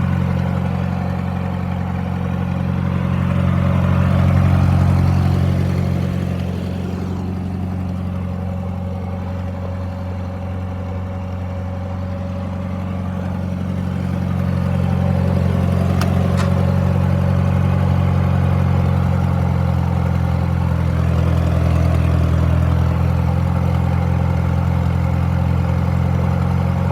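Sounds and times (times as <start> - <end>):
tractor engine idling: 0.0 - 26.9.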